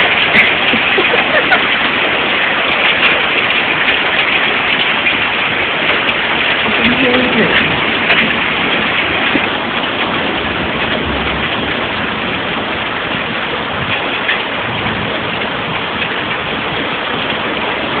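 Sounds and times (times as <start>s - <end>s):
heavy rain pouring: 0.0s - 18.0s
ticks of raindrops: 0.0s - 18.0s.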